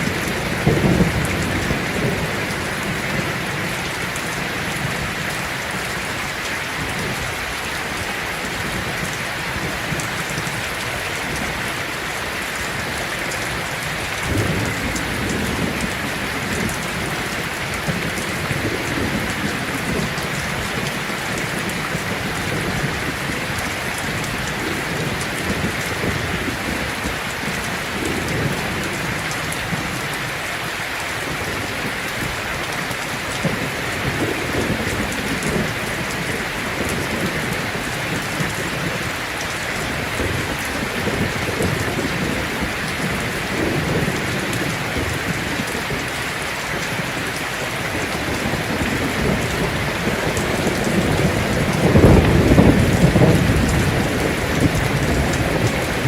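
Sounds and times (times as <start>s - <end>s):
low thunder rumbling: 0.0s - 6.2s, 12.6s - 30.0s, 31.3s - 56.0s
heavy rain on a tin roof: 0.0s - 56.0s.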